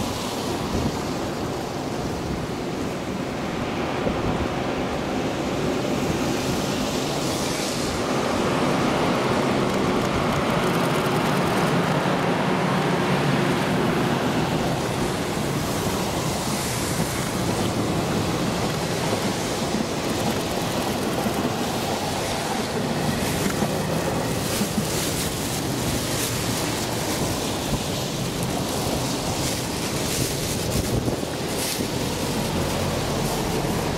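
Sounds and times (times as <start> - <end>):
train wheels running on rails: 0.0 - 33.9
wind on microphone: 0.0 - 33.9.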